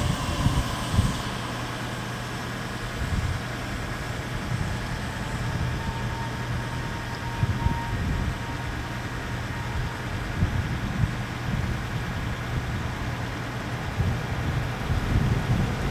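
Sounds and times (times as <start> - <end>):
electric train humming: 0.0 - 15.9.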